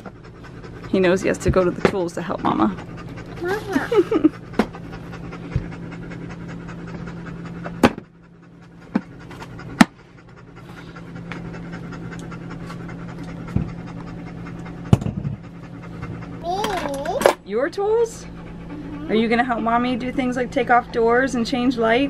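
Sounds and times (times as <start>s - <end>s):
dog panting: 0.0s - 22.0s
steady low hum: 0.0s - 22.0s.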